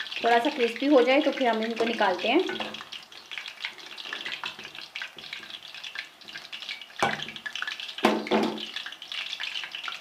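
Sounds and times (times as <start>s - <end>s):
deep-frying sizzle with pops: 0.0s - 10.0s.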